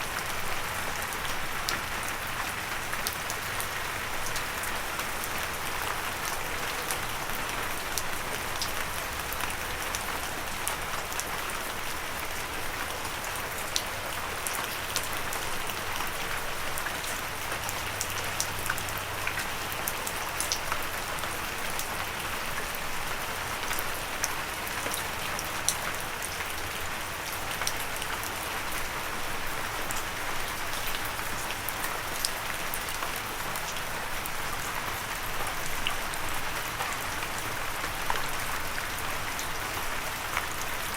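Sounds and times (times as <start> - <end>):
gentle steady rain: 0.0 - 40.9.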